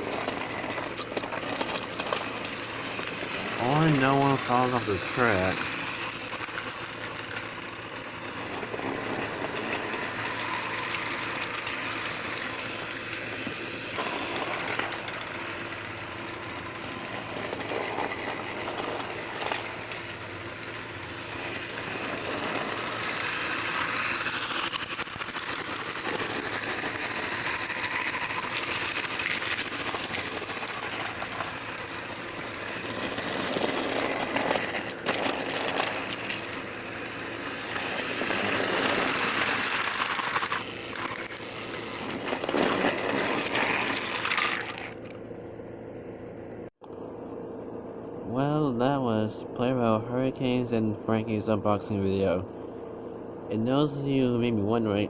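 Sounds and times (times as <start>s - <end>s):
toy trains rattling on track: 0.0s - 45.2s.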